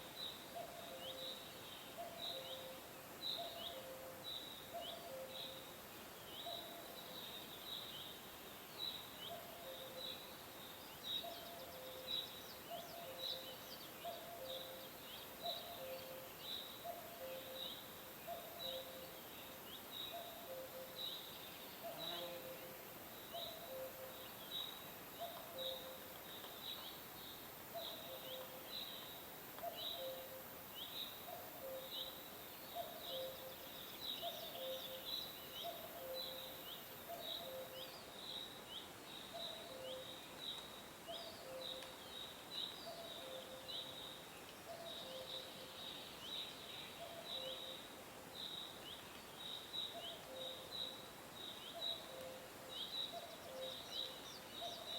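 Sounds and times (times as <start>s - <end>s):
faint high hiss: 0.0s - 54.9s.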